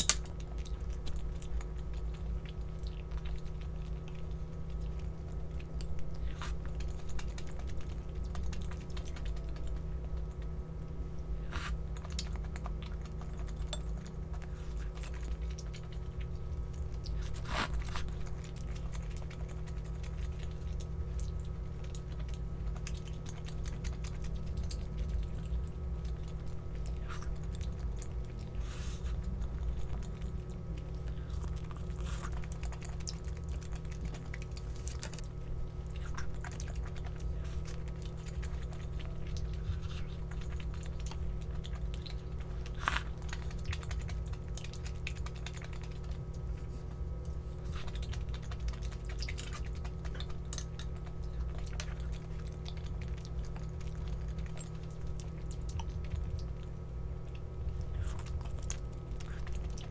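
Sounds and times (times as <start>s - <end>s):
low hum: 0.0s - 59.9s
person chewing: 0.0s - 59.9s.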